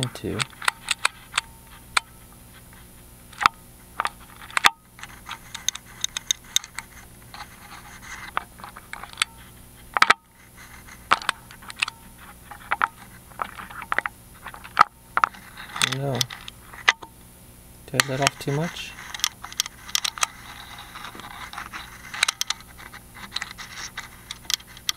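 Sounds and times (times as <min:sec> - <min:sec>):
lock pick clicking and scraping: 0:00.4 - 0:02.1, 0:03.4 - 0:09.4, 0:10.0 - 0:17.1, 0:18.0 - 0:24.9.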